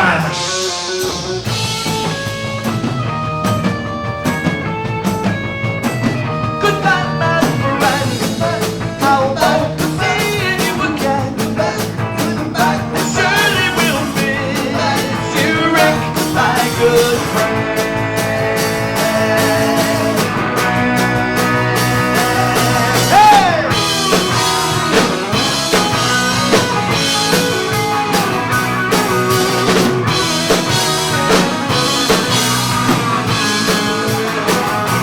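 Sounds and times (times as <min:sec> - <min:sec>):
lead guitar melody bending: 0:00.0 - 0:11.8, 0:12.8 - 0:35.0
rock band playing: 0:00.0 - 0:35.0.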